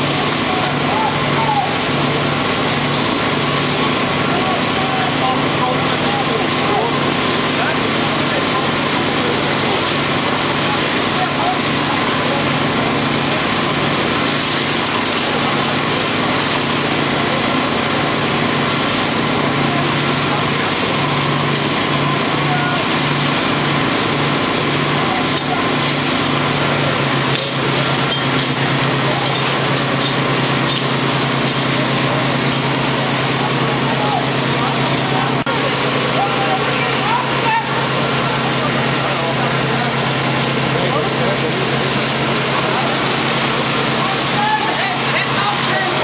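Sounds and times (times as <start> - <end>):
pump engine humming: 0.0 - 46.0
water jets rushing from hoses: 0.0 - 46.0.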